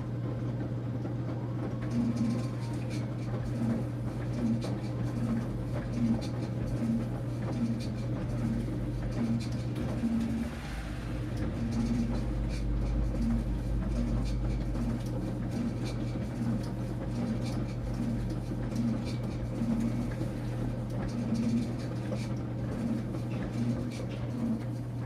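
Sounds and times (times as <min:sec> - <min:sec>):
washing machine churning: 0:00.0 - 0:25.0.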